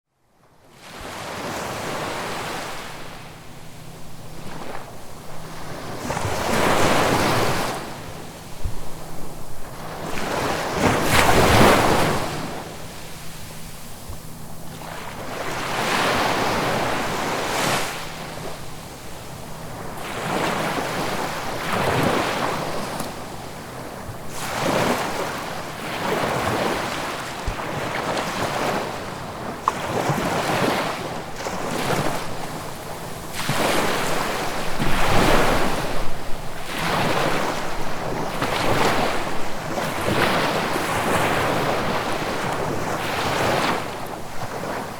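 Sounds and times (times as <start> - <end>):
ocean waves breaking on shore: 0.6 - 44.9.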